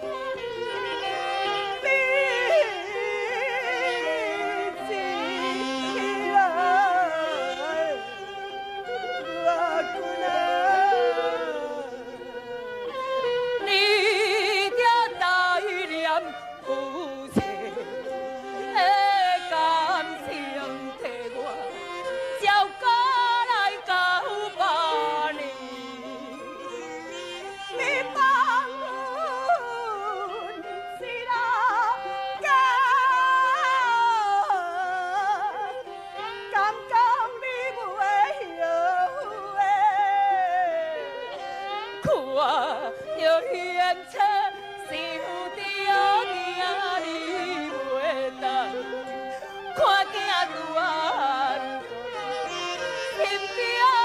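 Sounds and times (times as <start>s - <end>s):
person singing into microphone: 0.0s - 13.0s, 13.6s - 54.0s
instrumental accompaniment: 0.0s - 54.0s.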